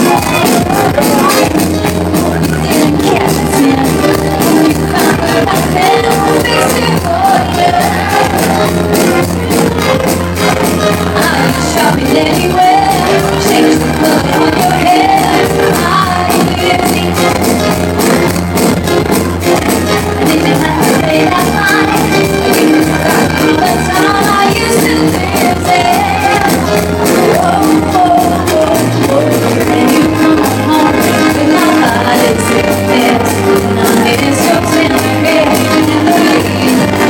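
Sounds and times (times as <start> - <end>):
pop backing music: 0.0 - 37.0
woman singing into microphone: 0.0 - 37.0.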